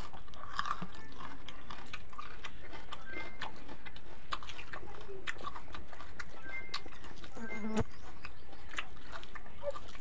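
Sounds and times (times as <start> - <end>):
wet chewing smacks: 0.0 - 10.0.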